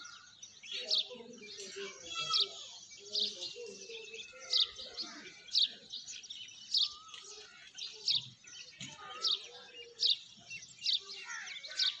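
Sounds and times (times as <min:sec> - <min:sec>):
other birds calling: 0:00.0 - 0:12.0.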